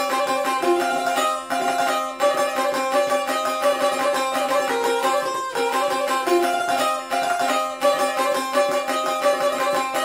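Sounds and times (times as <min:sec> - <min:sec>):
plucked lute dance tune: 0:00.0 - 0:10.0.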